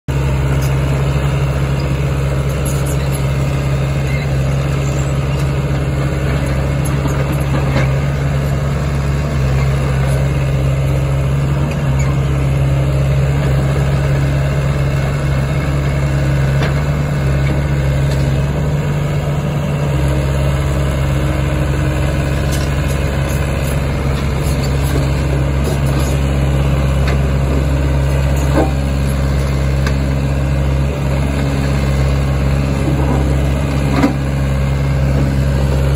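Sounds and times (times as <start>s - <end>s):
excavator diesel engine running: 0.1s - 35.9s
hydraulics working: 0.2s - 35.9s.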